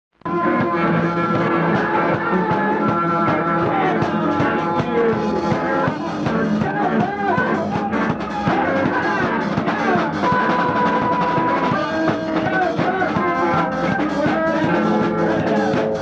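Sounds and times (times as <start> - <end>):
guitar: 0.2 - 16.0
rock band playing: 0.2 - 16.0
steady drum beat: 0.3 - 16.0.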